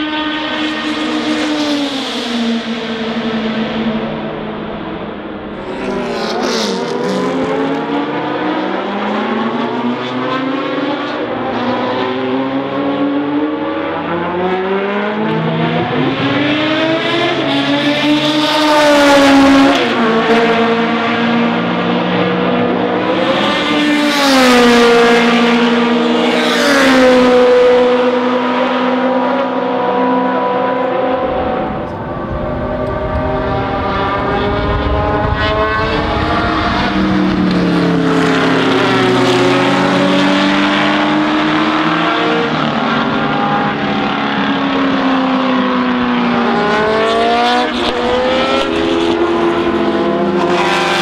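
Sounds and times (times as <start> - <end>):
race car engine accelerating: 0.0 - 51.0.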